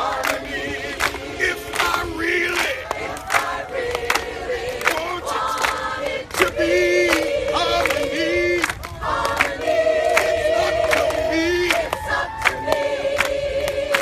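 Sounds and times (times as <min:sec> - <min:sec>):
choir singing: 0:00.0 - 0:14.0
people clapping in unison: 0:00.0 - 0:14.0.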